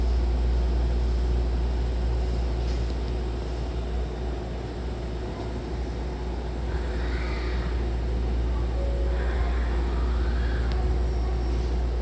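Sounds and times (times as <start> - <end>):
electric train hum: 0.0 - 12.0
faint steady whine: 0.0 - 12.0.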